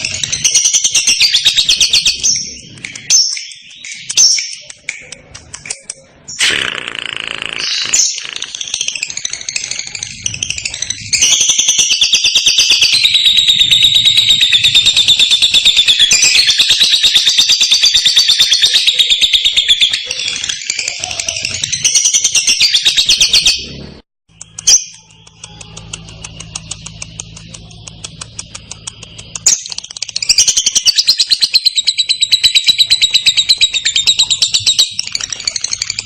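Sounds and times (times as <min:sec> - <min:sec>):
lovebird chattering trill: 0:00.0 - 0:23.6, 0:24.3 - 0:36.0
bird chirp: 0:00.0 - 0:36.0.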